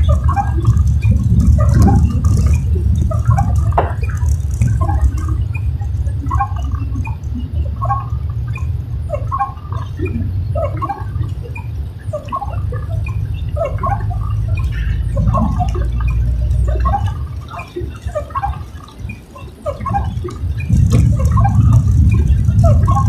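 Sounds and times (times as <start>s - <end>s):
low rumble of car driving: 0.0s - 23.0s
rain pattering on car: 0.0s - 23.0s.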